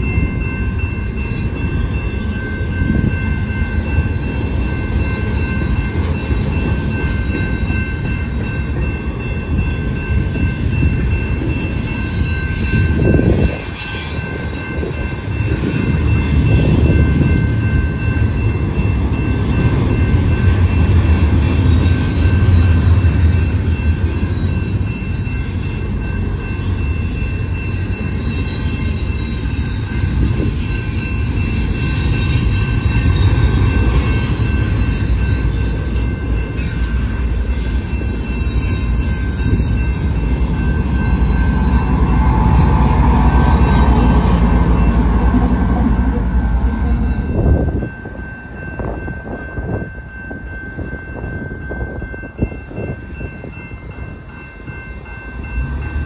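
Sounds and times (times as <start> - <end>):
level crossing bell ringing: 0.0 - 45.6
train wheel squeal: 0.0 - 45.8, 46.4 - 56.0
train rumbling past: 0.0 - 56.0.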